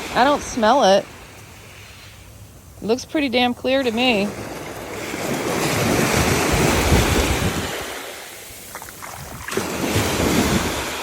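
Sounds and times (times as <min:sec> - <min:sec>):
waves washing on beach: 0:00.0 - 0:11.0
wind gusting on microphone: 0:00.0 - 0:11.0.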